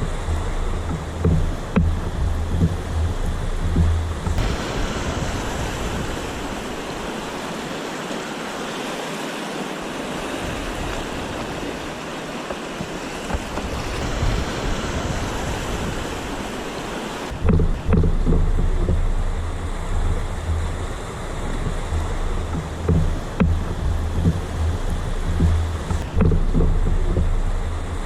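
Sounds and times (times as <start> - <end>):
river water flowing: 0.0 - 28.0
wind: 0.0 - 28.0.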